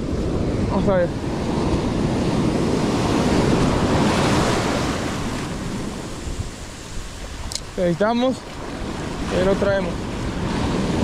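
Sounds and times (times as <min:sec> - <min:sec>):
ocean surf breaking: 0:00.0 - 0:11.0
wind rumbling on microphone: 0:00.0 - 0:11.0.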